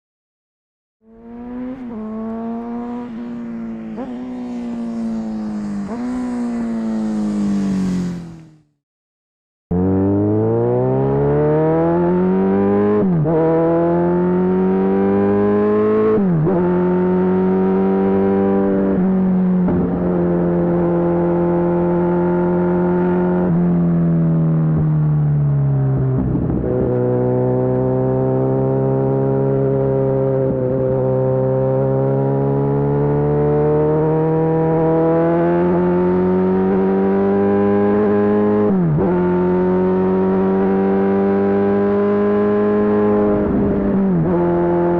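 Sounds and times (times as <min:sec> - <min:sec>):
motorcycle engine accelerating: 0:01.0 - 0:08.8, 0:09.7 - 0:44.9.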